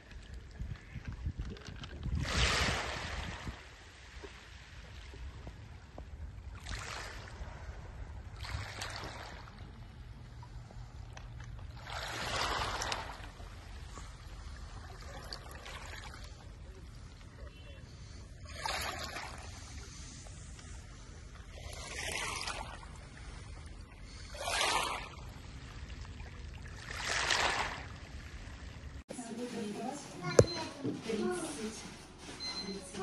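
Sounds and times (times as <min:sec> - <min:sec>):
steady low rumble of sea: 0:00.0 - 0:30.0.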